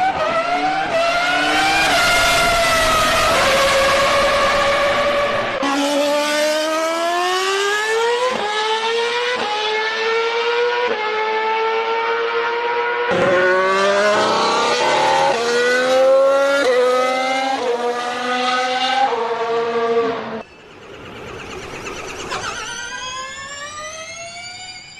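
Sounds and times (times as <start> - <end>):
race car engine at full throttle: 0.0 - 24.9.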